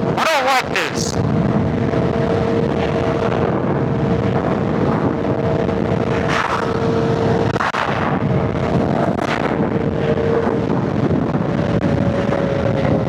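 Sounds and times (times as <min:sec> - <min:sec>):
wind noise on microphone: 0:01.2 - 0:13.0.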